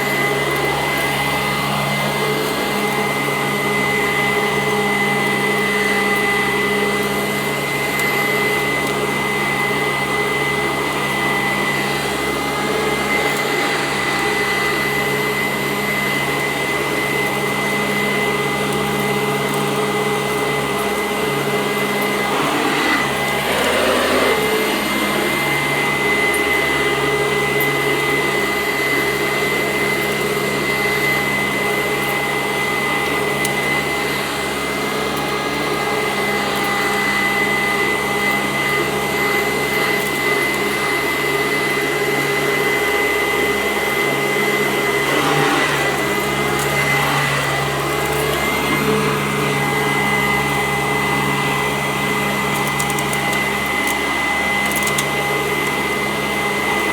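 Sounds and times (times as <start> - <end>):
upright vacuum running on carpet: 0.0 - 56.9.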